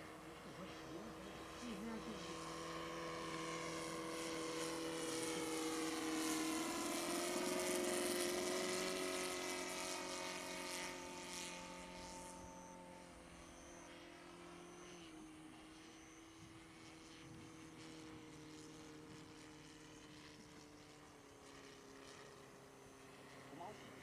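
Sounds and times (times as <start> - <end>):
model airplane engine and propeller: 0.0 - 24.0.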